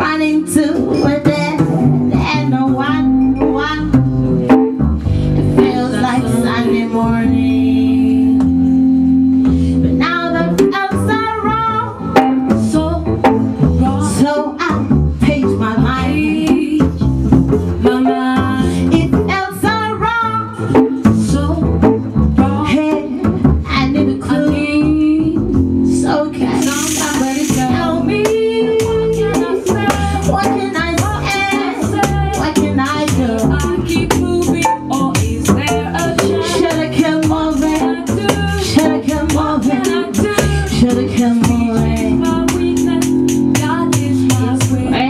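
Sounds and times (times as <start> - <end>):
women singing: 0.0 - 4.6, 5.4 - 8.6, 9.9 - 17.0, 17.8 - 45.0
plucked double bass: 0.0 - 45.0.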